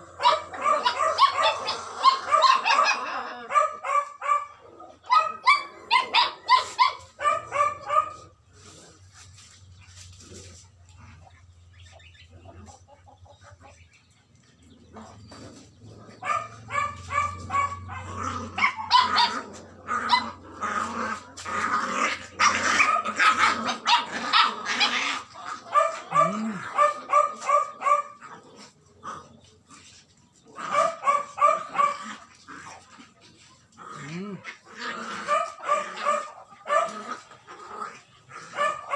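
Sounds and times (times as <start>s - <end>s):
puppies growling: 0.0s - 38.9s
puppies yapping: 0.0s - 38.9s.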